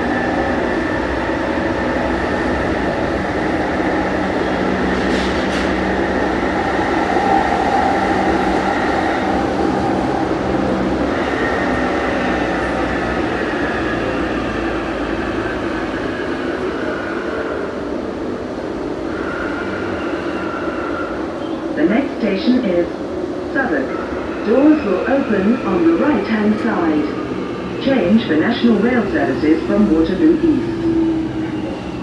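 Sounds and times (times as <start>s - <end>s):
train wheels rumbling in tunnel: 0.0s - 32.0s.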